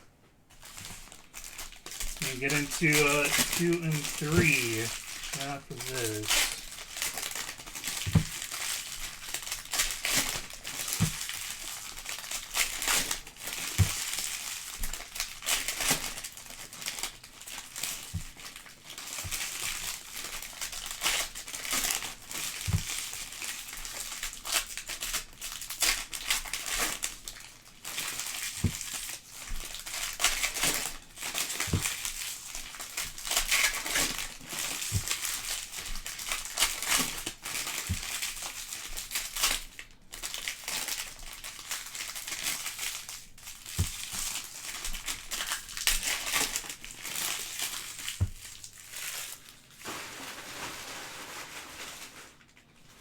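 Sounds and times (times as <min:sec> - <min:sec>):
foil wrappers crinkling: 0:00.5 - 0:53.0.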